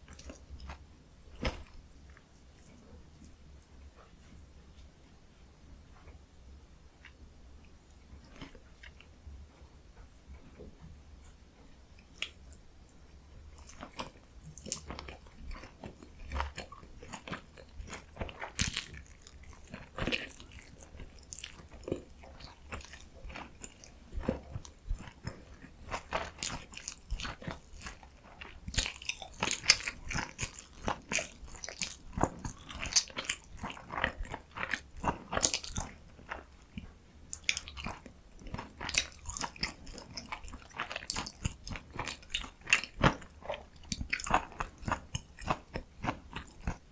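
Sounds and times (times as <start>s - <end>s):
biting and chewing food: 0.0s - 2.7s, 12.0s - 46.9s.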